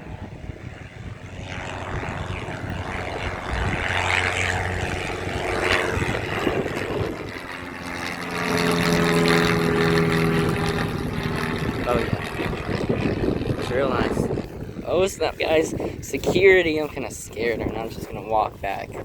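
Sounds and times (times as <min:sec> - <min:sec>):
propeller airplane passing: 0:00.0 - 0:19.0
steady engine hum: 0:00.0 - 0:19.0.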